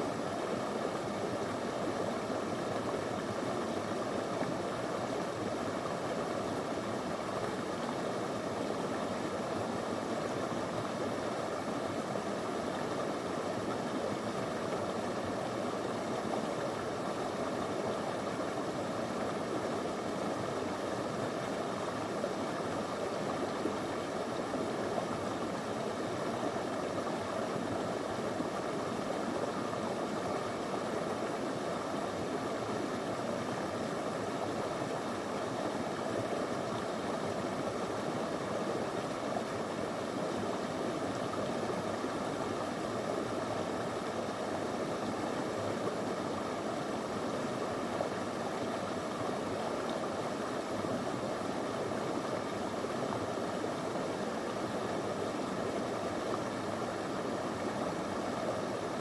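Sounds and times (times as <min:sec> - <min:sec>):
river flowing over stones: 0:00.1 - 0:59.0.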